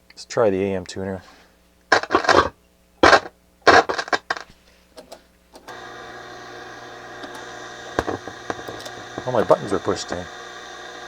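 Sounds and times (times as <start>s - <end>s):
speaker hum with hiss: 0.0s - 11.0s.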